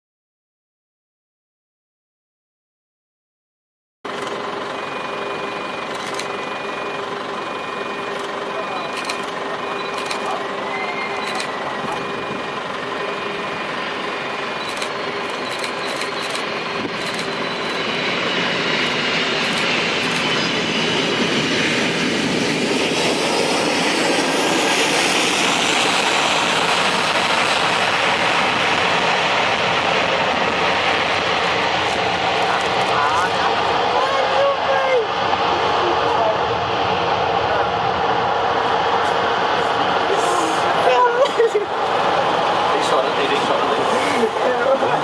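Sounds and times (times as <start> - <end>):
jet engines rushing: 4.1 - 45.0.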